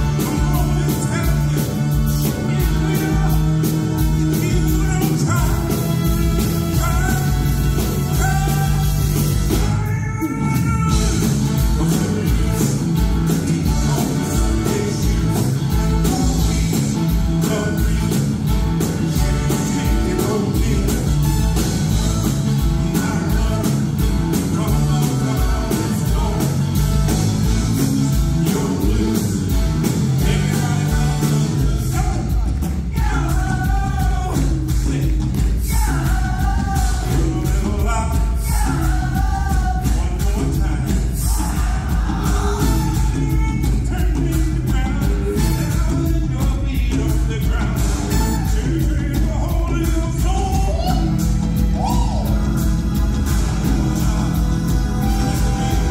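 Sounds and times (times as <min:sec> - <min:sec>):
man singing into a microphone: 0:00.0 - 0:09.0, 0:11.8 - 0:21.2, 0:22.7 - 0:26.8, 0:28.4 - 0:29.5, 0:30.2 - 0:51.2
rock and roll band playing: 0:00.0 - 0:55.9.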